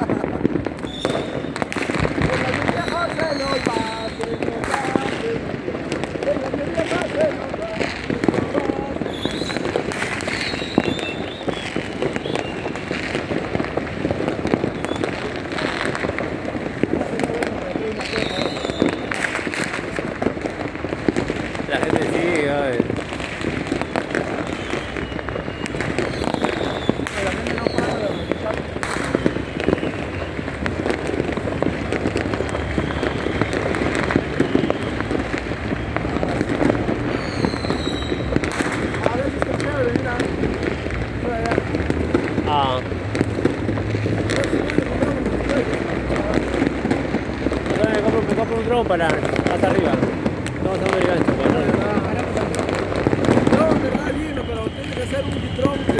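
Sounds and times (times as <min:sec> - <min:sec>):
fireworks and firecrackers crackling: 0:00.0 - 0:55.9.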